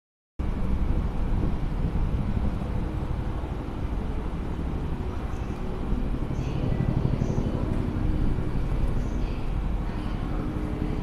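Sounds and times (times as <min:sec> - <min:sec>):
electric train rumbling: 0:00.4 - 0:11.0.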